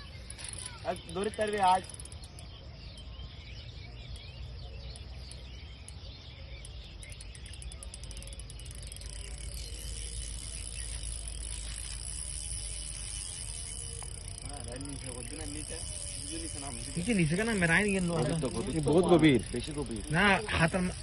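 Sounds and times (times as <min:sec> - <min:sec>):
insects chirping: 0:00.0 - 0:21.0
small bird chirps: 0:00.0 - 0:21.0.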